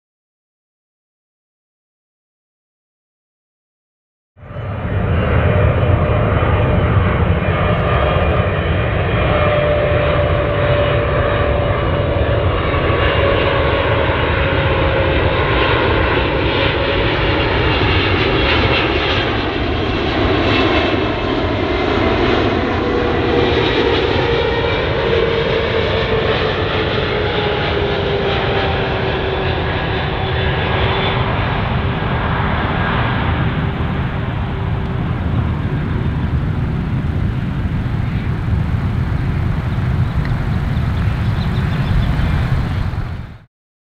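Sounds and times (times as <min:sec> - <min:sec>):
airliner jet engines on approach: 0:04.4 - 0:43.5.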